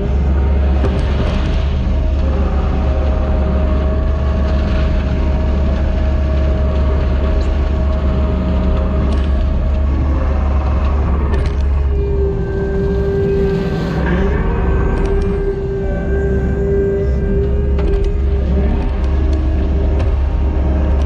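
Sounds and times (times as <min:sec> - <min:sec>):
diesel engine rumbling: 0:00.0 - 0:21.0
high whine: 0:00.0 - 0:21.0.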